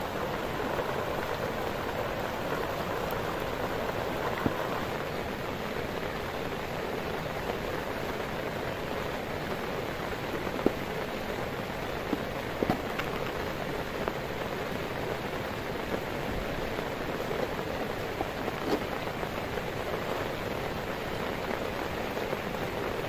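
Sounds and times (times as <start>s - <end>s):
heavy rain on a tent tarp: 0.0s - 23.0s.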